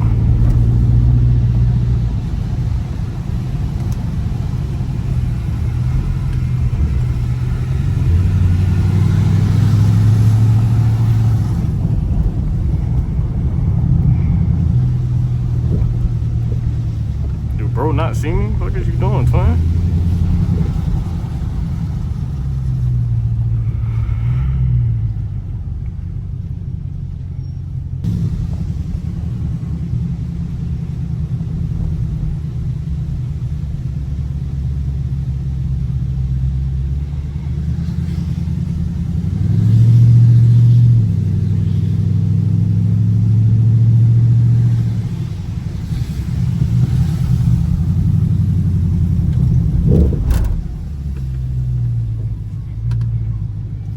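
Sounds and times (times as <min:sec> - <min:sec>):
car engine rumbling: 0:00.0 - 0:53.9.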